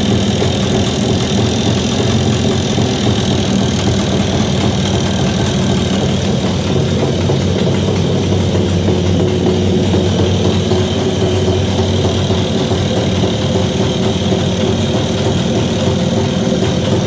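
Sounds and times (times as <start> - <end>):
engine knocking: 0.0 - 17.0
motorcycle engine idling: 0.0 - 17.0.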